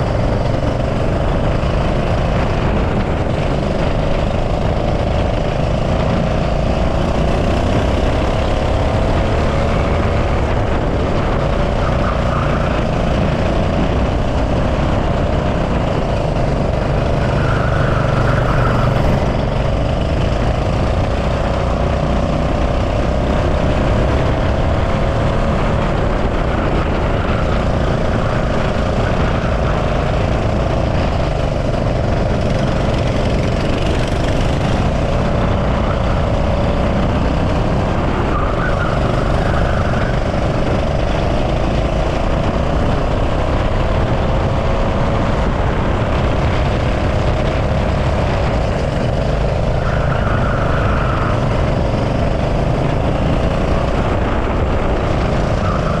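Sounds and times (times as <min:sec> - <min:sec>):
constant low rumble: 0:00.0 - 0:56.0
go-kart engine revving: 0:00.0 - 0:56.0.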